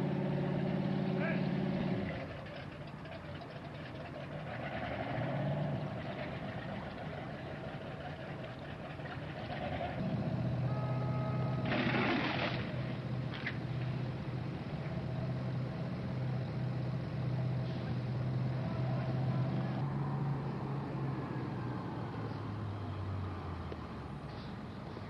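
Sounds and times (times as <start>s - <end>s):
large engine droning: 0.0s - 25.0s.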